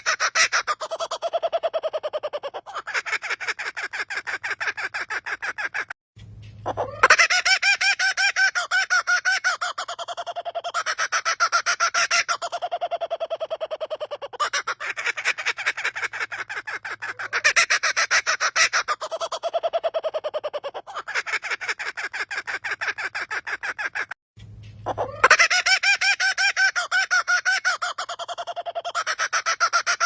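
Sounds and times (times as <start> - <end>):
bird laughing call: 0.0 - 6.0, 6.6 - 24.2, 24.8 - 30.0.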